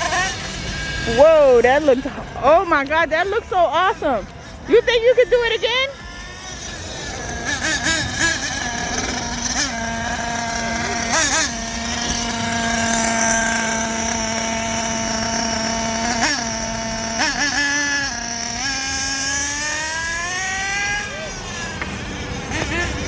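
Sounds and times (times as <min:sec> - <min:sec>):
toy car motor whining: 0:00.0 - 0:23.0.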